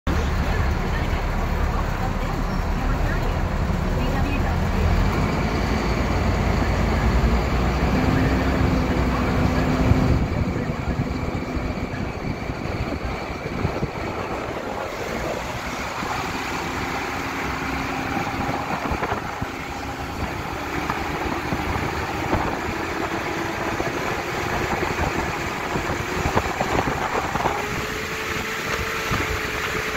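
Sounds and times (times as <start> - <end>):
highway road noise: 0.1 - 29.9
passing traffic: 0.1 - 29.9
vehicle engine hum: 0.1 - 29.9.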